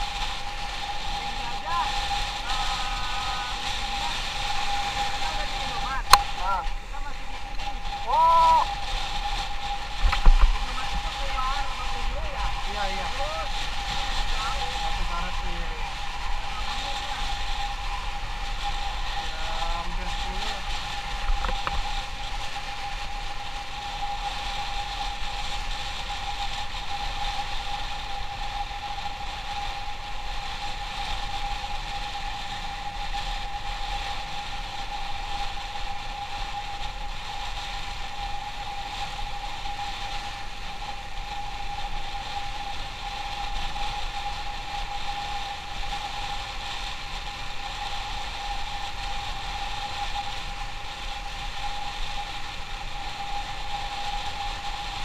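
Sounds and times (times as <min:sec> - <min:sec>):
motorcycle engine humming: 0:00.0 - 0:55.0.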